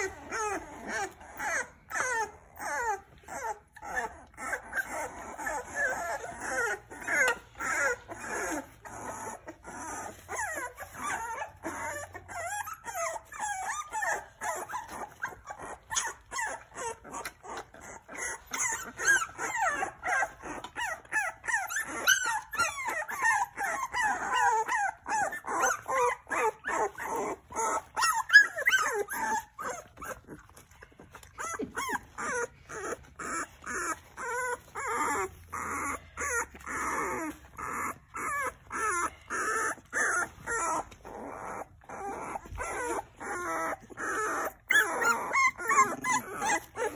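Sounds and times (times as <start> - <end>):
puppies whimpering and crying: 0.0 - 46.9.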